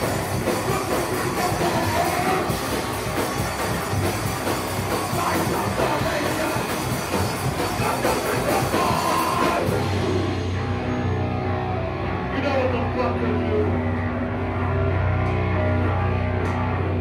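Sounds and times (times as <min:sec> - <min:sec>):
punk band playing live: 0:00.0 - 0:17.0.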